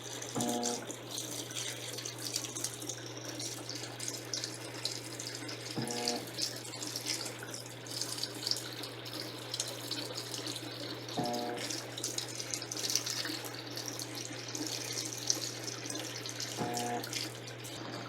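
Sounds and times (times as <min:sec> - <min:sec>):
washing machine humming: 0:00.0 - 0:18.0
water streaming into a tub: 0:00.0 - 0:18.0.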